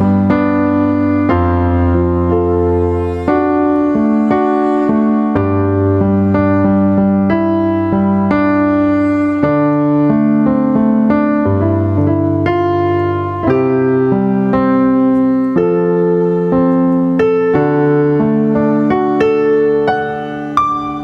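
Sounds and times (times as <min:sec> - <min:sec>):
piano keyboard chords: 0:00.0 - 0:21.0.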